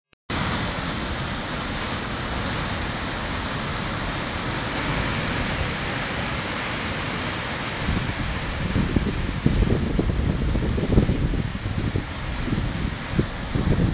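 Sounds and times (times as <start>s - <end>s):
waves breaking on rocks: 0.3s - 13.9s.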